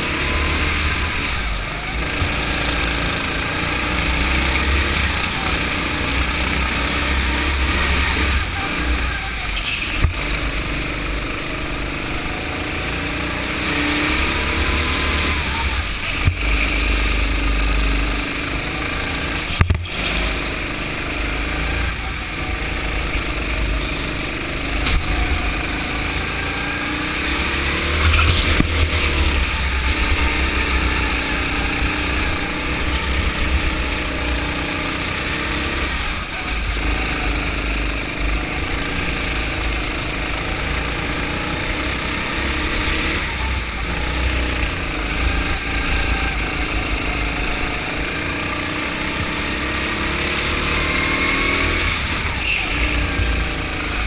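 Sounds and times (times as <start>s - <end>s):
go-kart engine racing: 0.0s - 54.0s.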